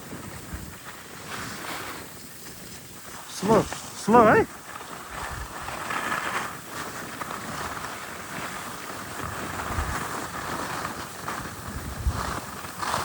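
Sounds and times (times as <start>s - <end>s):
skis sliding over snow: 0.0s - 13.0s
wind on microphone: 0.0s - 13.0s.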